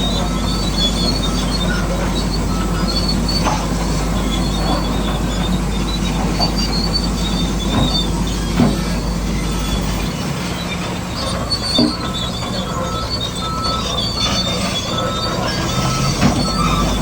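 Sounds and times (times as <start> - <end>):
electric motors whining: 0.0 - 17.0
high squeaks: 0.0 - 17.0.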